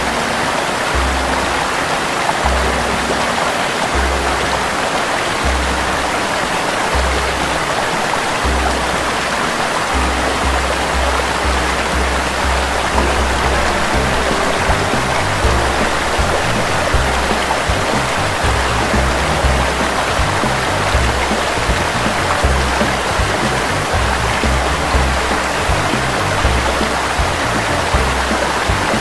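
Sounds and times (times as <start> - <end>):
background music with bass: 0.0 - 29.0
water rushing over rocks: 0.0 - 29.0.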